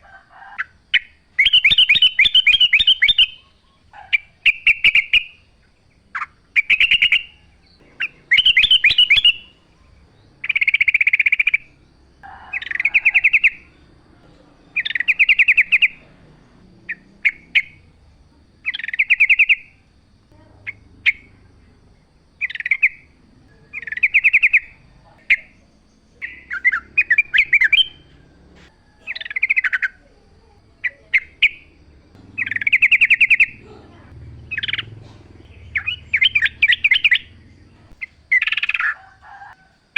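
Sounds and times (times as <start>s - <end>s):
bulbul singing chattering phrases: 0.6s - 39.6s.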